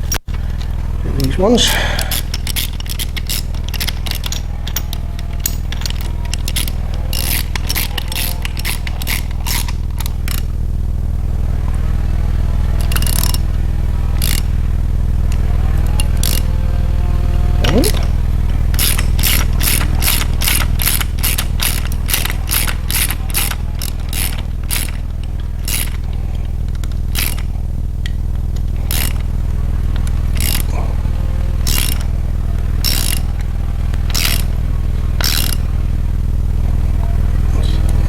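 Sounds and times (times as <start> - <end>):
steady low hum: 0.0 - 38.0
ratchet wrench clicking: 1.6 - 10.9, 12.6 - 16.6, 17.6 - 30.8, 31.5 - 35.7.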